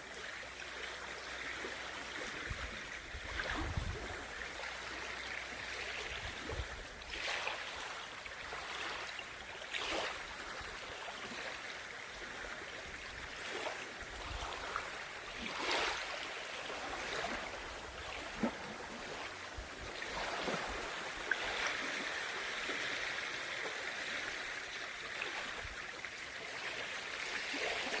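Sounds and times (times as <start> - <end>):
lake water lapping at shore: 0.0 - 28.0.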